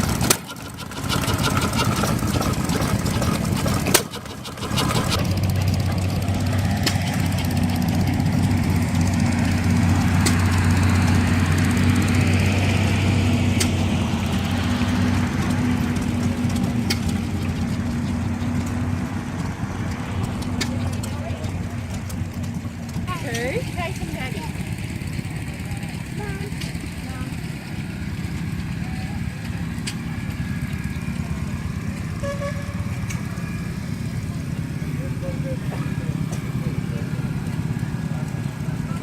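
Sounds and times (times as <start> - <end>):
engine humming: 0.0 - 39.0.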